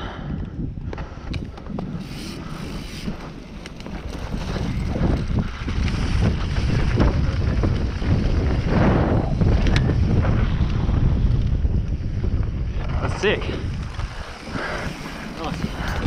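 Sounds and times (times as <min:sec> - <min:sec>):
wind buffeting microphone: 0:00.0 - 0:16.0
bike tyres rumbling over grass: 0:01.0 - 0:16.0.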